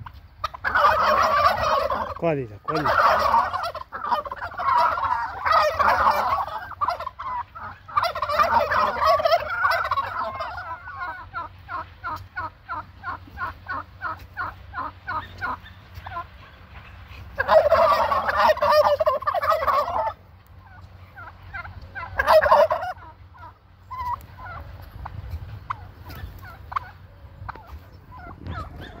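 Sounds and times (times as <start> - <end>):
short turkey calls: 0.0 - 29.0
turkeys gobbling: 0.0 - 29.0.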